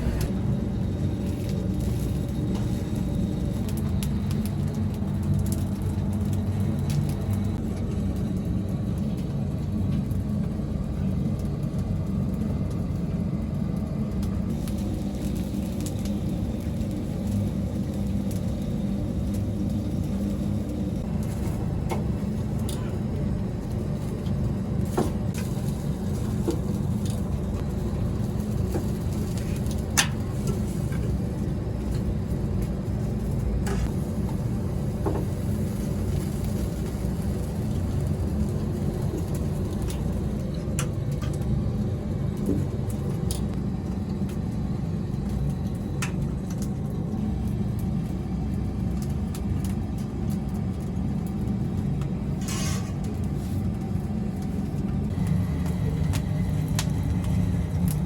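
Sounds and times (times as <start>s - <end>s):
low mechanical rumble: 0.0s - 58.0s.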